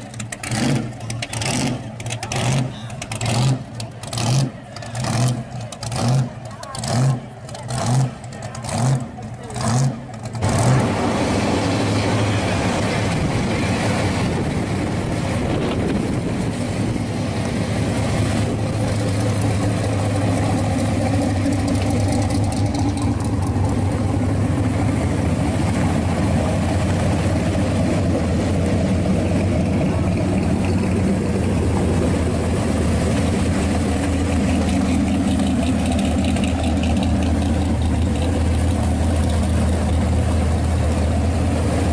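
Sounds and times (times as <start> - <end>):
car engines rumbling: 0.0 - 41.9.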